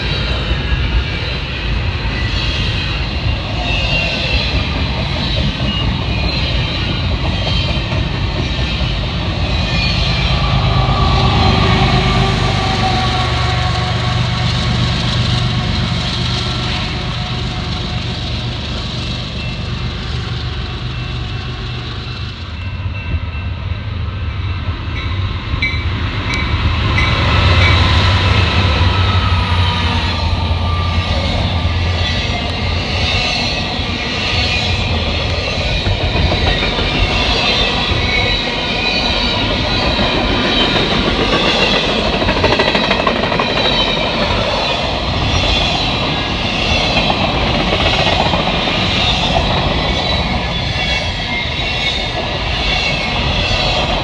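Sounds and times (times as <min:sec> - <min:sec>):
freight cars rumbling: 0:00.0 - 0:54.0
train wheels on rails: 0:00.0 - 0:54.0.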